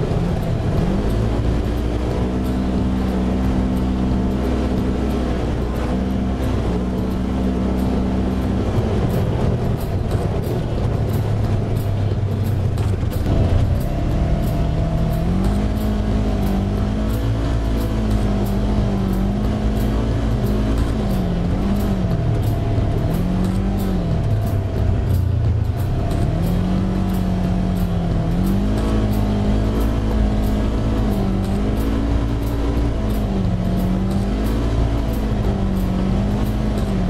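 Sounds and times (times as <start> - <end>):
tyre and wind noise: 0.0 - 37.0
utility vehicle engine revving: 0.0 - 37.0.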